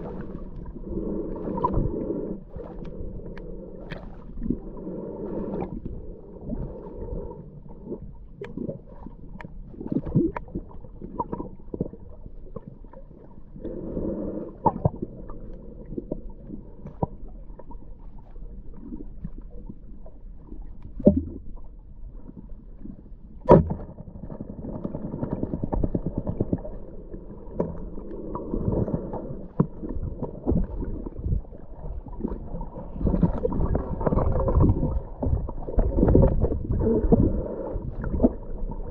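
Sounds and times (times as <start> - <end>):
underwater water movement: 0.0 - 38.9.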